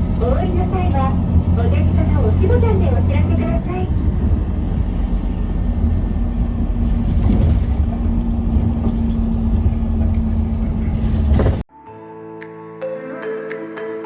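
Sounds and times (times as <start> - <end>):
vehicle engine rumble: 0.0 - 11.7.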